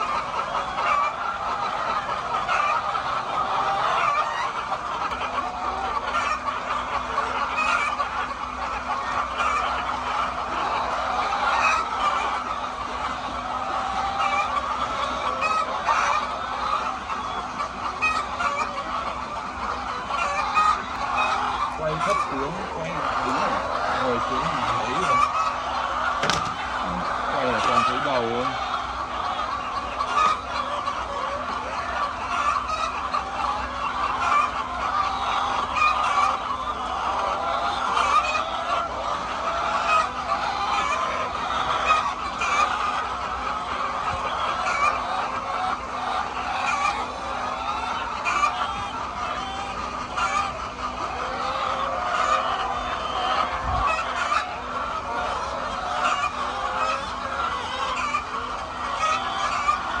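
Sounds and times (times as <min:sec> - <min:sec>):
hens clucking and calling: 0:00.0 - 1:00.0.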